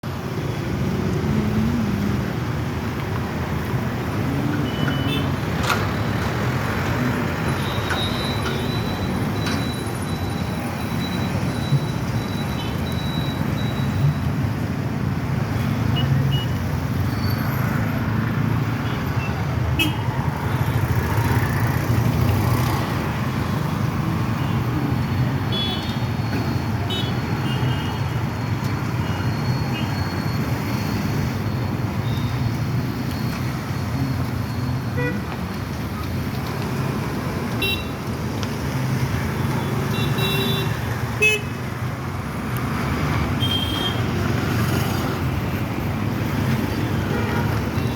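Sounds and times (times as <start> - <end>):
road traffic rumble: 0.0 - 47.9.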